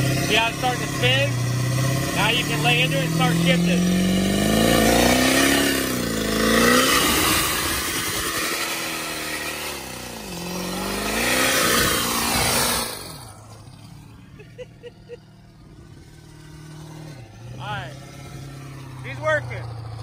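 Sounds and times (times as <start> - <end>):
diesel engine revving: 0.0 - 20.0
tyres spinning: 0.0 - 20.0.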